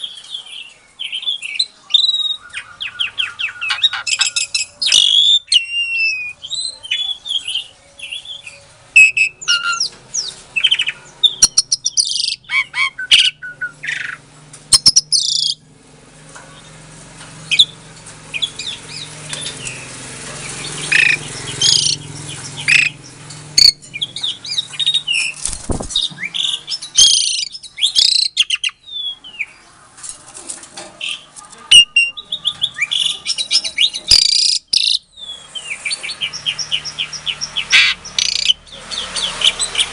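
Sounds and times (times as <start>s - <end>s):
starling singing: 0.0s - 15.7s, 16.5s - 30.1s, 31.0s - 39.9s.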